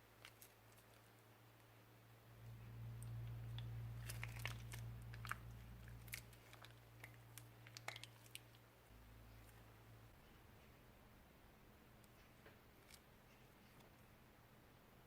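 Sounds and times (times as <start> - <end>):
steady low hum: 1.4 - 15.0.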